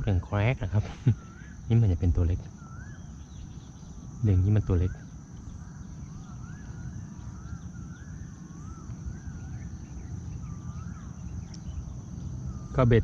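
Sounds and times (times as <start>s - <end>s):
high insect drone: 0.0s - 13.0s
bird wavering whistles: 2.5s - 13.0s.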